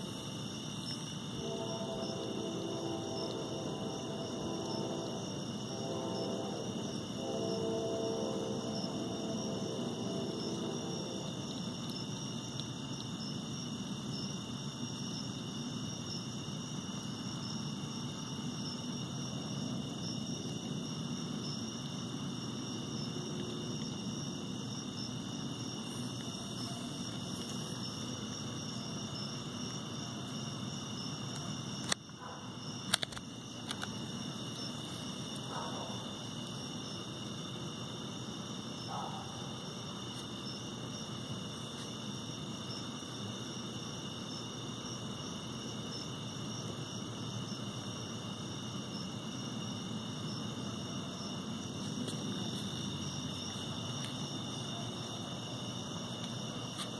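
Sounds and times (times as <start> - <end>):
night insects chorus: 0.0 - 56.9.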